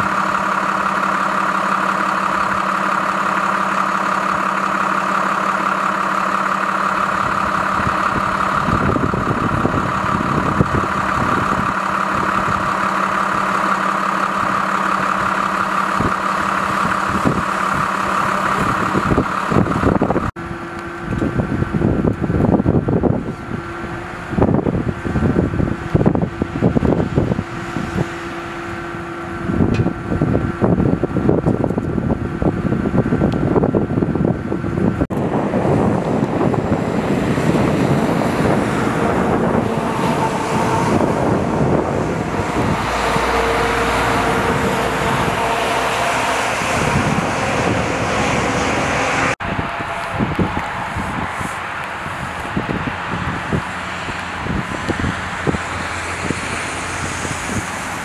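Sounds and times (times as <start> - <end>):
vehicle engines running: 0.0 - 58.0
wind buffeting microphone: 6.4 - 58.0.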